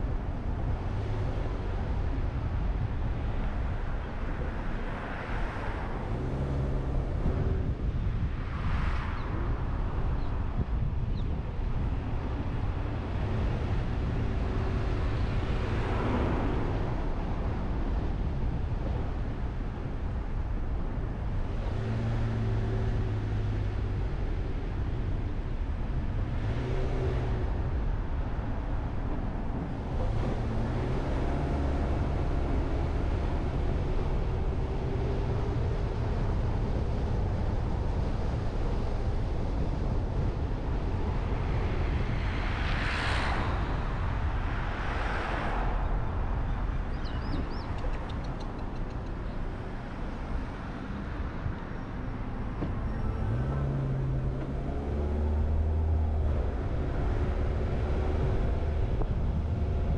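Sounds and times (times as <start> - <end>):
car road and engine noise: 0.0 - 59.9
vehicles passing close: 0.0 - 59.9.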